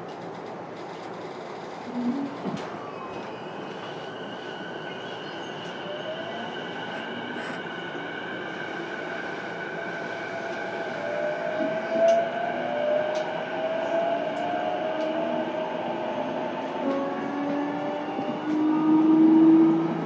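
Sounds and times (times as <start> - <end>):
train hum and rail noise: 0.0 - 20.0.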